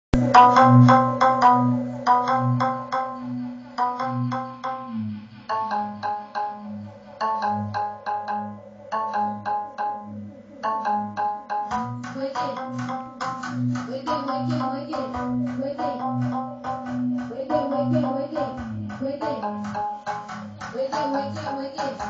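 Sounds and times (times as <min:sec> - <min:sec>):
plucked marimba-like melody: 0:00.2 - 0:22.0
pulsing bass line: 0:00.2 - 0:22.0.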